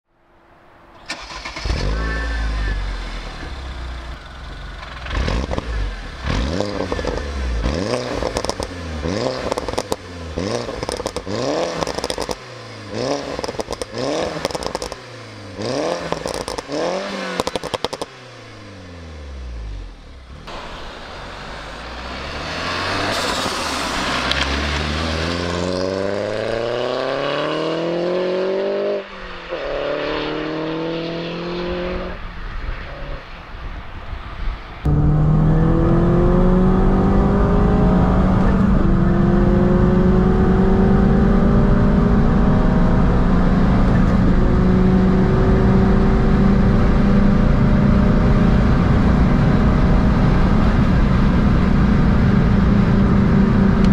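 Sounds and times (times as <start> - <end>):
car engine revving: 1.1 - 33.3, 34.8 - 53.9.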